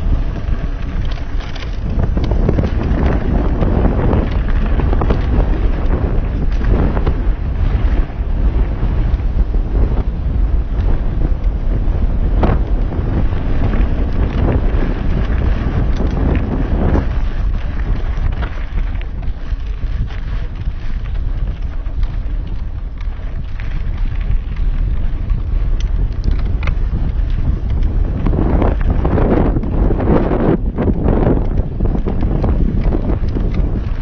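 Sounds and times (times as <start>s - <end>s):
bike knocks and rattles: 0.0s - 34.0s
wind buffeting microphone: 0.0s - 34.0s.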